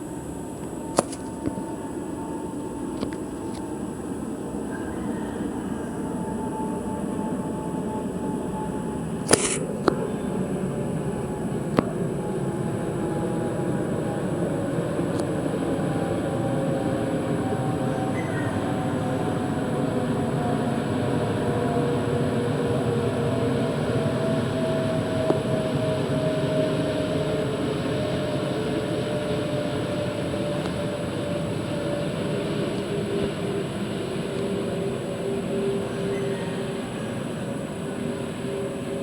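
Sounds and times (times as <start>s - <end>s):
jet engine whining tones: 0.0s - 39.0s
jet engines rumbling: 0.0s - 39.0s.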